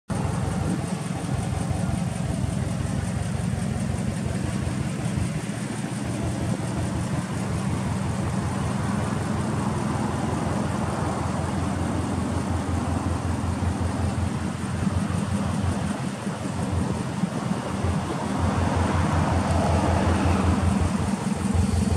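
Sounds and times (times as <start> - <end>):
car engine idling: 0.1 - 21.9.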